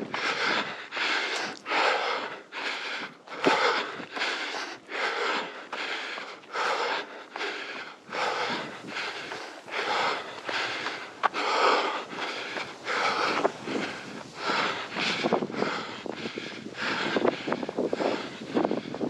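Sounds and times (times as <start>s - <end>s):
runner breathing hard: 0.0s - 19.0s.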